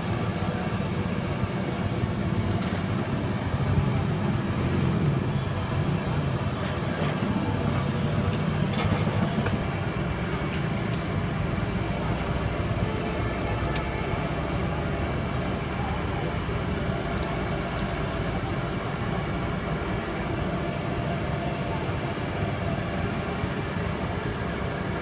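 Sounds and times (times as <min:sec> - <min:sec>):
street background rumble: 0:00.0 - 0:25.0.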